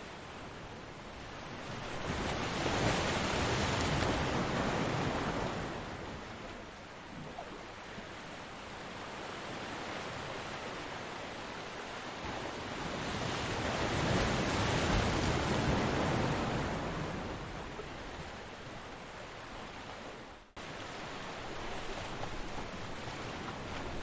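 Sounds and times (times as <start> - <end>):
low surf wash: 0.0 - 24.0.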